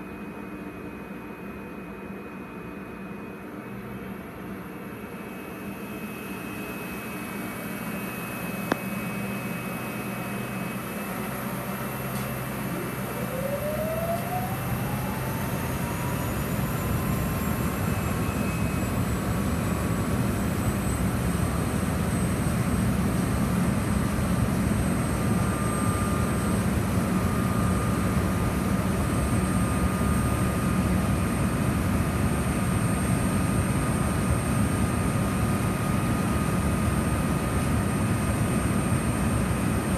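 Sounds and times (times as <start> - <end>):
cooling blowers whining and whirring: 0.0 - 39.9.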